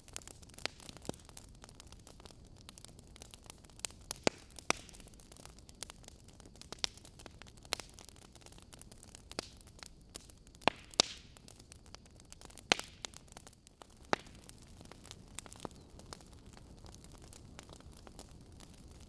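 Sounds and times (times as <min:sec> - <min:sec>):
faint steady hiss: 0:00.0 - 0:19.0
logs crackling in fireplace: 0:00.0 - 0:19.0
loud fire pops: 0:00.0 - 0:19.0.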